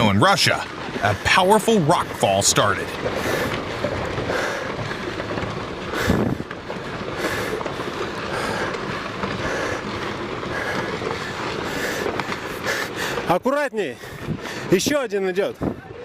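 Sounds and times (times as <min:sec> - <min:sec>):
rocks tumbling and clattering: 0:00.0 - 0:16.0.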